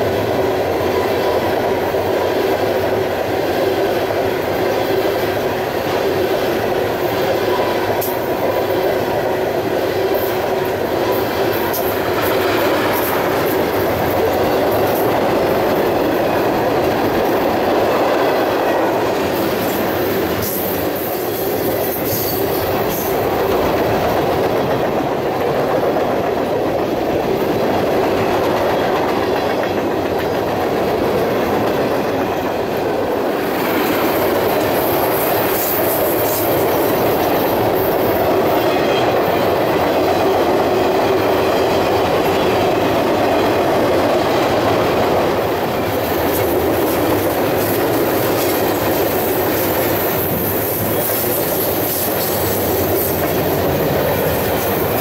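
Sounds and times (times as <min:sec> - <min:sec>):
steel wheels running on rails: 0:00.0 - 0:55.0.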